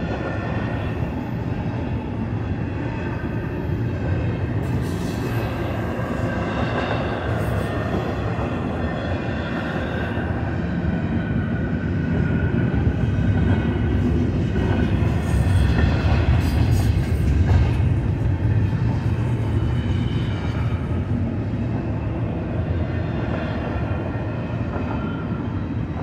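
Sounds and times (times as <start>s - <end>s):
freight train wheels rumbling on rails: 0.0s - 26.0s.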